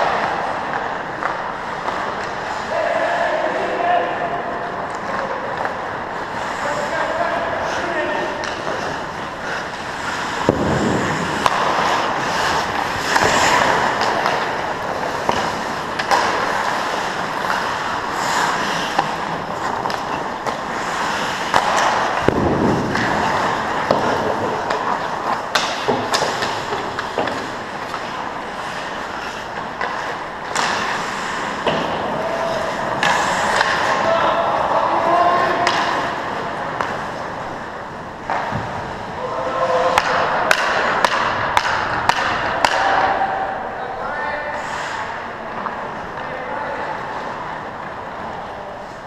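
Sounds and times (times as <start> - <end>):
skate blades scraping ice: 0.0 - 43.6, 44.2 - 49.0
hockey sticks and puck clacking: 0.0 - 49.0.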